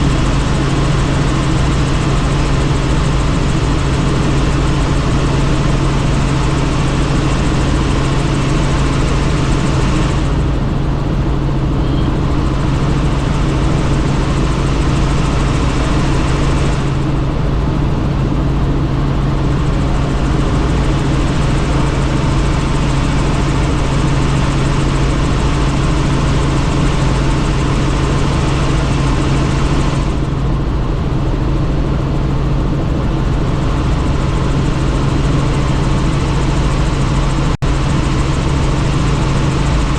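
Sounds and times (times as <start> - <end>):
helicopter engine and rotor hum: 0.0 - 39.9.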